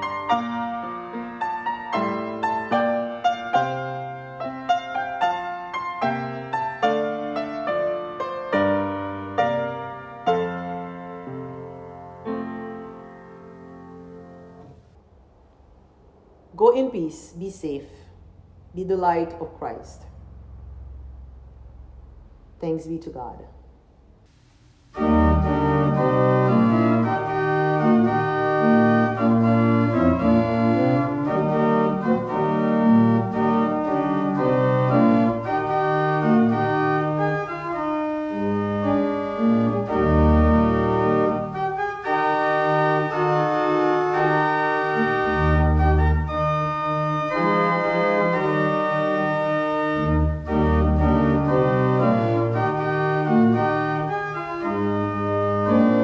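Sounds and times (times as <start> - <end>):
organ chords: 0.0 - 15.0, 24.3 - 56.0.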